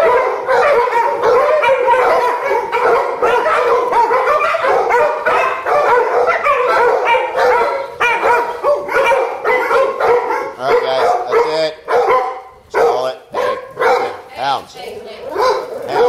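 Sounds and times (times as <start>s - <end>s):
dogs barking and yipping: 0.0s - 16.0s.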